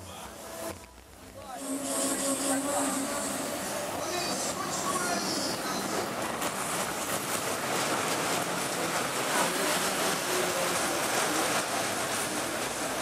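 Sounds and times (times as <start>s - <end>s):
roller coaster wheels on rails: 0.1s - 13.0s.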